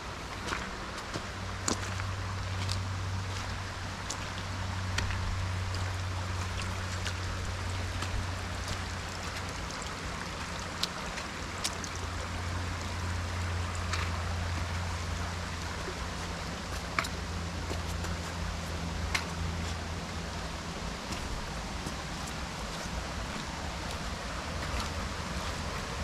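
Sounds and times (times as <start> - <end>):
creek water running: 0.0 - 26.0
steady low hum: 0.0 - 26.0.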